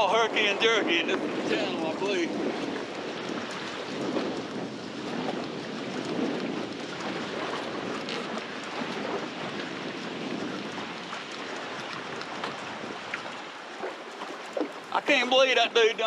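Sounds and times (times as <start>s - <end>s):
choppy water splashing: 0.0s - 16.0s
strong wind rushing: 0.0s - 16.0s.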